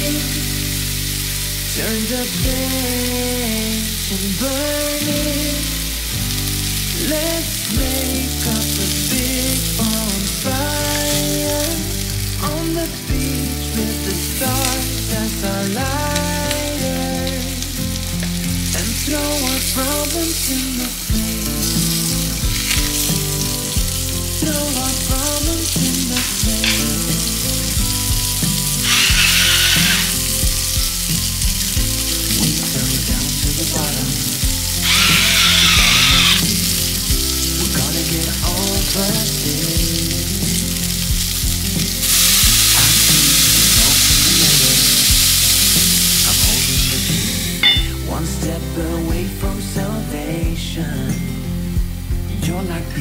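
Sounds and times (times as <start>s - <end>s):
onions sizzling in oil: 0.0s - 48.6s
background music: 0.0s - 53.0s.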